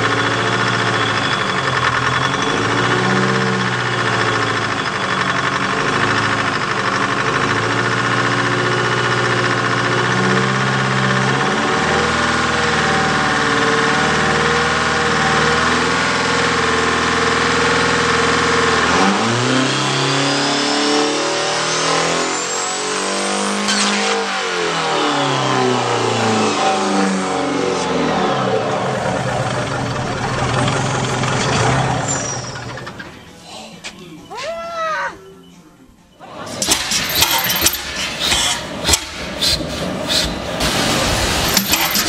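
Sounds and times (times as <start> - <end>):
diesel engine revving: 0.0 - 33.4, 36.2 - 42.0.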